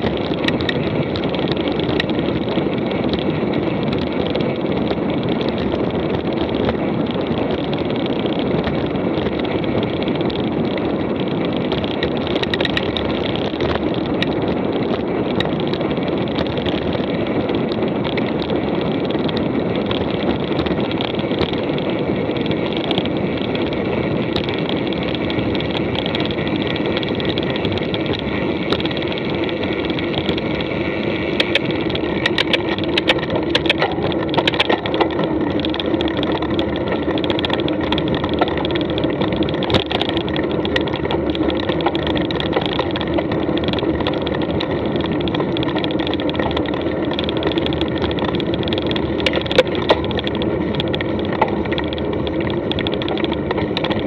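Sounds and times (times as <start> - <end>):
bike rattling over rough ground: 0.0 - 54.0
bike tyres rolling on dirt: 0.0 - 54.0
wind noise: 0.0 - 54.0.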